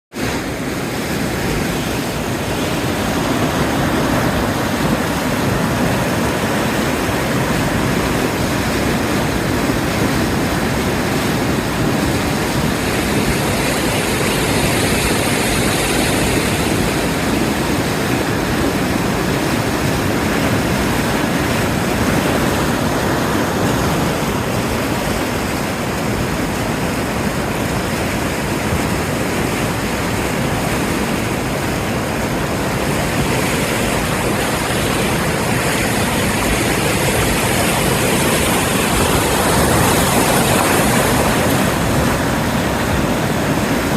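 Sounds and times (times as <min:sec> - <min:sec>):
fast-flowing water roaring: 0:00.1 - 0:43.9.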